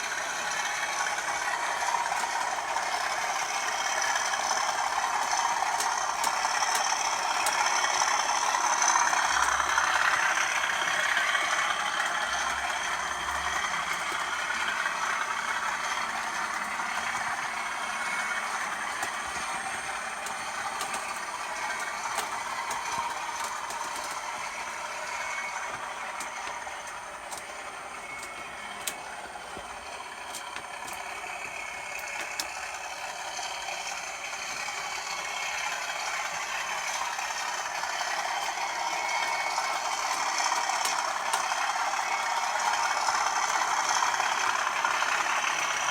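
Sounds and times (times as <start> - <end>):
diesel locomotive engine running: 0.0 - 45.9
clicks and rattling: 0.6 - 45.9.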